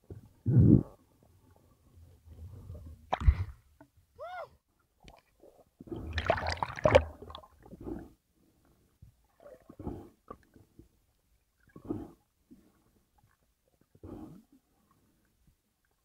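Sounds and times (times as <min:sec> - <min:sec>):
underwater sloshing and gurgling: 0:00.0 - 0:04.0, 0:04.8 - 0:16.0.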